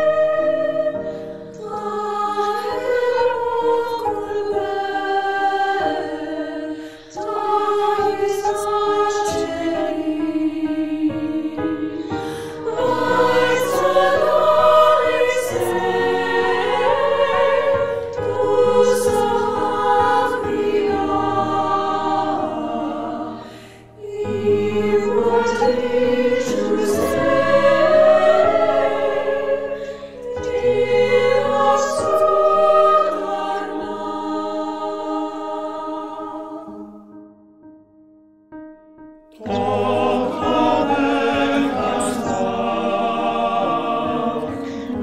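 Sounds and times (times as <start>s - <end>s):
choir singing a lullaby: 0.0s - 37.3s, 39.3s - 45.0s.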